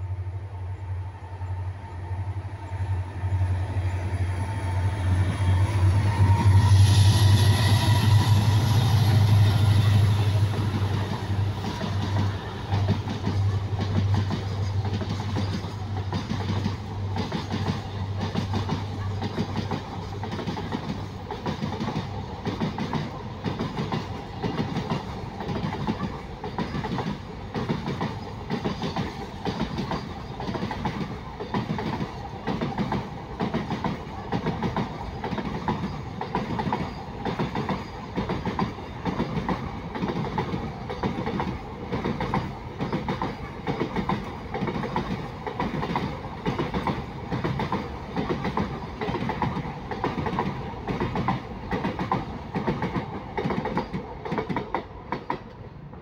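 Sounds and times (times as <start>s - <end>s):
freight train wheels clattering: 3.9s - 55.6s.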